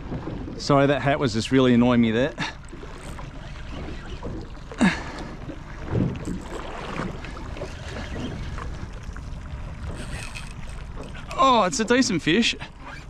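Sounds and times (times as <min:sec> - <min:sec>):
water around a boat: 0:00.0 - 0:13.0
wind: 0:00.0 - 0:13.0.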